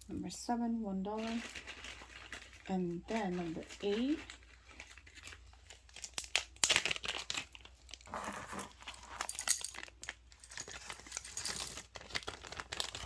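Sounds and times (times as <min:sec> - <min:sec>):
crinkling and rustling of wrapping: 0:01.0 - 0:13.0.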